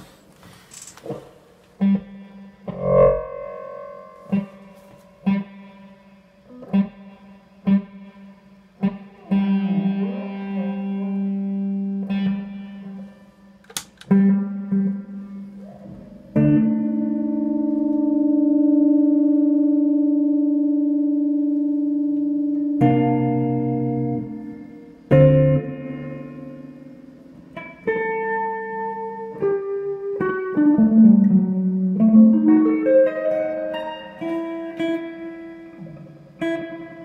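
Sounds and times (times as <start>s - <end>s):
electric guitar notes: 1.6s - 37.0s.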